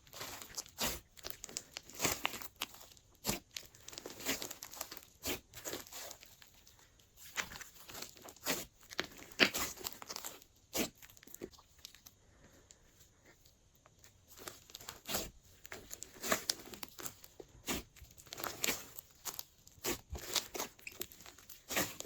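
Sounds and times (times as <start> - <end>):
slime squishing and popping: 0.0 - 6.4, 7.3 - 12.1, 14.3 - 22.0.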